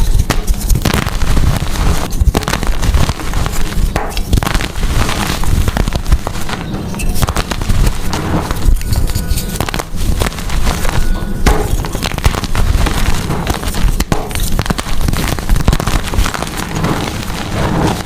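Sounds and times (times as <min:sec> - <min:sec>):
chalk crunching: 0:00.0 - 0:18.0.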